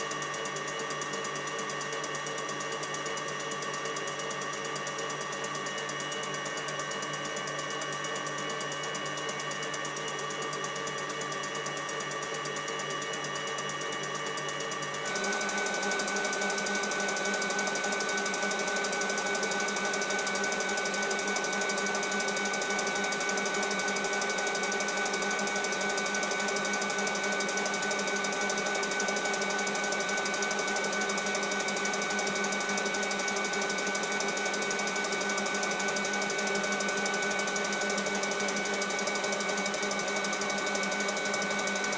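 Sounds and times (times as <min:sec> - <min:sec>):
electric mixer whining: 0:00.0 - 0:41.9.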